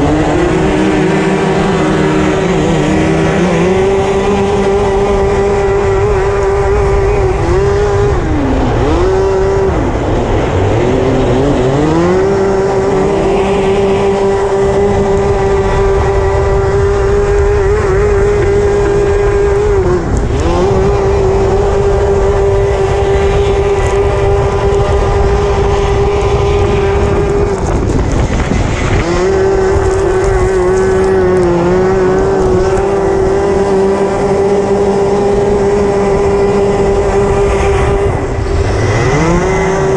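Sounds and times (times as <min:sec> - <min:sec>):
racing kart engine at high revs: 0:00.0 - 0:39.9.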